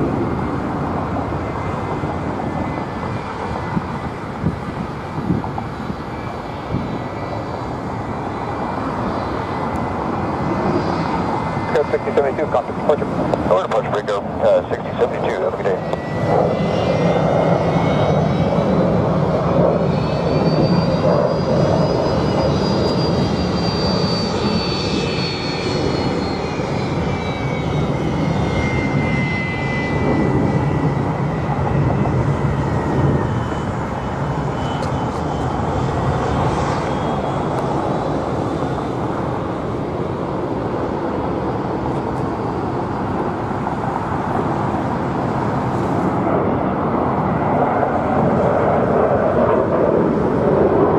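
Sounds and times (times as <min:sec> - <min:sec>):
high jet whine: 0:00.0 - 0:50.9
jet engine roar: 0:00.0 - 0:50.9.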